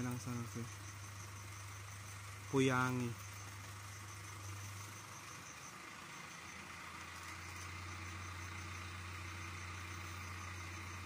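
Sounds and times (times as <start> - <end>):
engine idling hum: 0.0 - 11.0.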